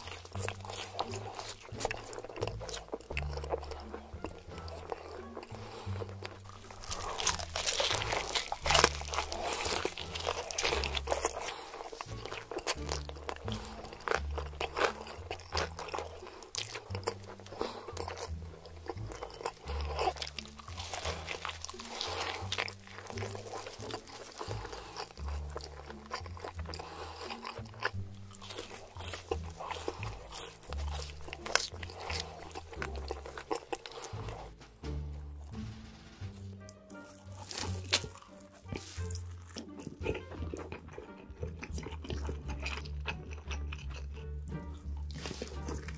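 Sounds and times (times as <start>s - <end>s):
crunching and chewing: 0.0s - 34.7s, 36.6s - 45.9s
background music with bass line: 0.0s - 45.9s.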